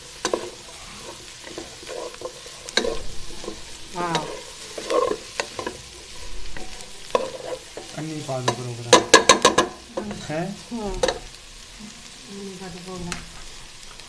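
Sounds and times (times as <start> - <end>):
spatula scraping a wok: 0.0 - 12.2
frying sizzle: 0.0 - 14.0.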